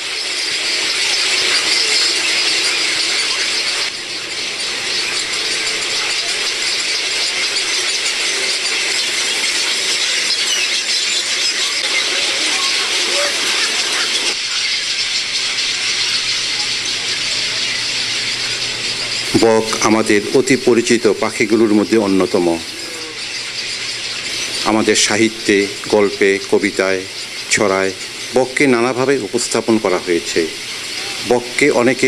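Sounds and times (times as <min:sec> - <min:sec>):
herons calling shrilly: 0:00.0 - 0:32.0.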